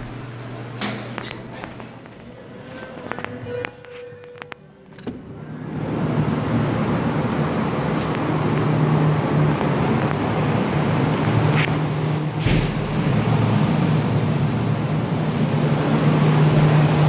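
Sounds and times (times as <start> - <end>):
loud machine hum with rushing: 0.0 - 3.6, 4.9 - 17.0.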